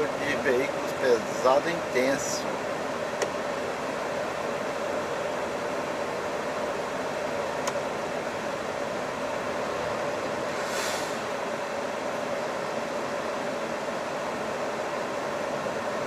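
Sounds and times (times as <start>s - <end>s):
truck cab fan hiss and hum: 0.0s - 16.0s.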